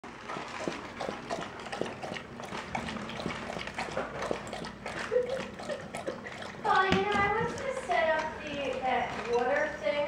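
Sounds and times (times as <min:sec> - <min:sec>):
dog lapping water: 0:00.0 - 0:09.8.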